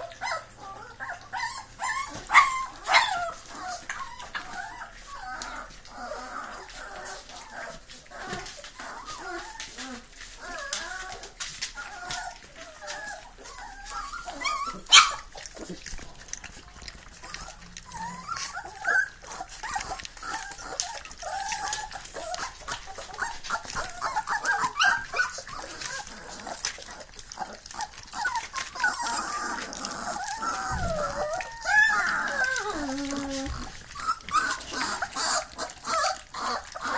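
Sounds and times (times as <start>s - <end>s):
puppies whimpering and squealing: 0.0s - 36.9s
wet smacking and lapping: 0.0s - 36.9s.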